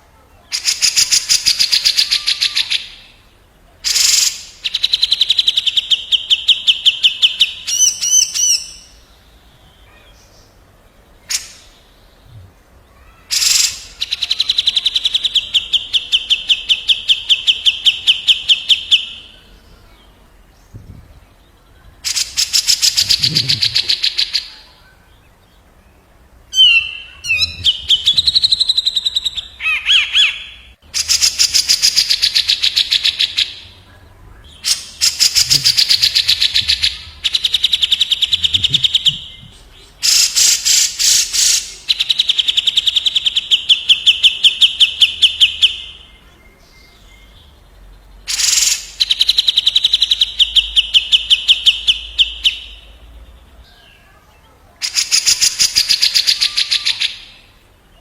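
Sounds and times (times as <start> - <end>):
bulbuls singing rattling trills: 0.3 - 58.0.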